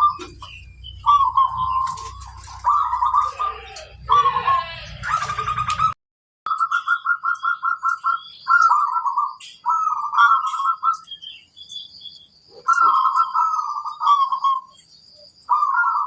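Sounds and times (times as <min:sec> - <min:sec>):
dove cooing: 0:00.0 - 0:11.1, 0:12.5 - 0:14.8, 0:15.5 - 0:16.0
faint high bird chirps: 0:00.0 - 0:16.0.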